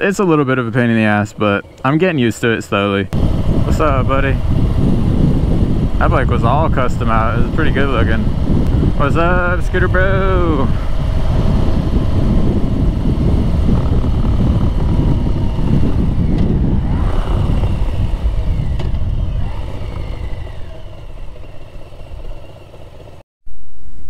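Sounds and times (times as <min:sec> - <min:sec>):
motorcycle engine rumble: 0:00.0 - 0:23.2
wind noise: 0:02.6 - 0:22.6.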